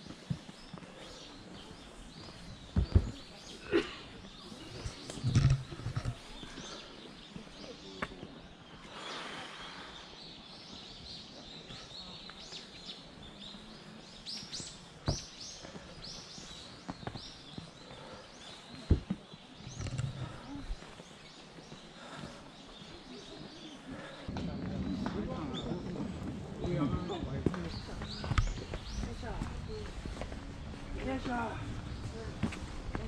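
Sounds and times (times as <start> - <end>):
faint voices of people: 0.0 - 33.0
small birds chirping: 0.0 - 33.0.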